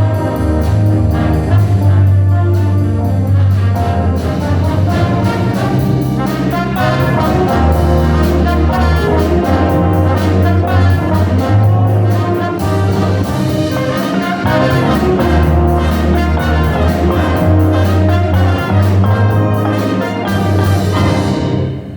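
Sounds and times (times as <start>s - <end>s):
brass band playing: 0.0s - 21.9s
low bass notes: 0.0s - 21.9s
steady drum beat: 0.0s - 21.9s.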